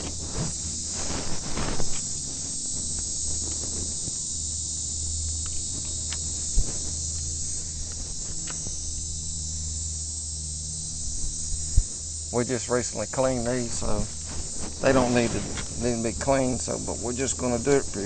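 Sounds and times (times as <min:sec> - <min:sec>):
low hum: 0:00.0 - 0:18.0
steady high hiss: 0:00.0 - 0:18.0.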